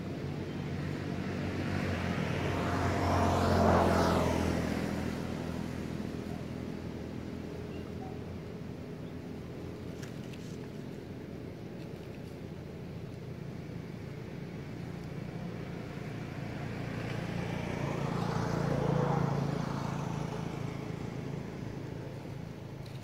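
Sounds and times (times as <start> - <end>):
vehicle engine hum passing: 0.0 - 23.0.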